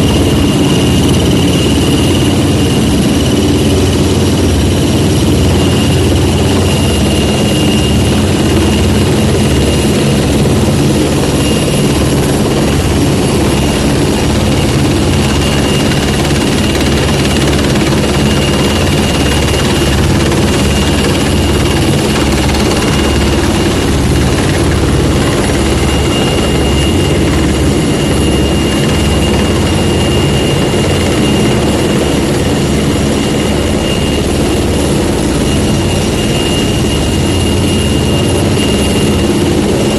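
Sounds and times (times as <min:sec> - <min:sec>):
helicopter rotor beat: 0:00.0 - 0:39.9
high turbine whine: 0:00.0 - 0:39.9.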